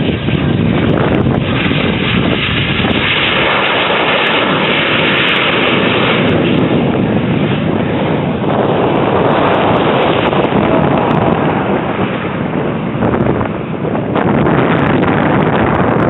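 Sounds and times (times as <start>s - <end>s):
loud jet roar: 0.0s - 16.0s.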